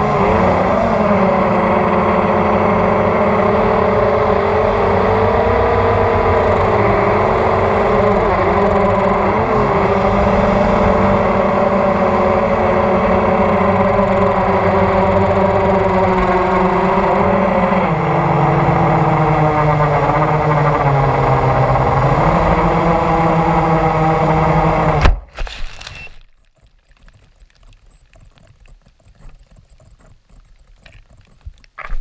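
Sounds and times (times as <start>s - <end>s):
drone propellers whining: 0.0s - 26.2s.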